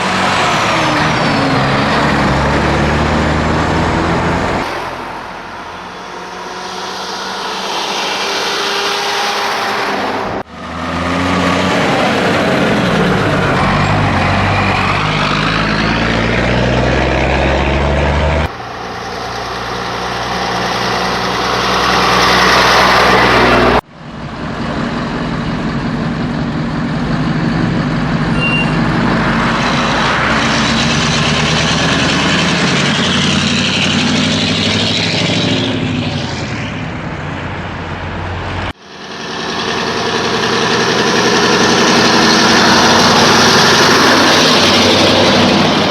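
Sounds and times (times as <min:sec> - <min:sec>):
truck diesel engine running: 0:00.0 - 0:45.9.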